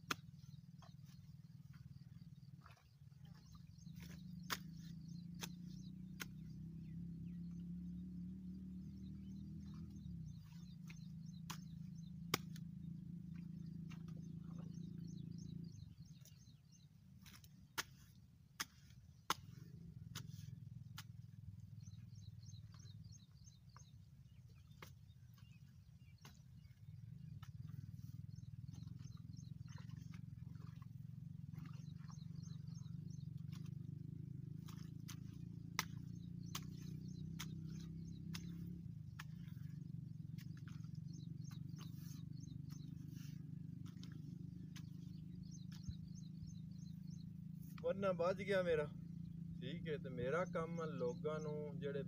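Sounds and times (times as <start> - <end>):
birds chirping: 0.0 - 52.0
low steady hum: 0.0 - 52.0.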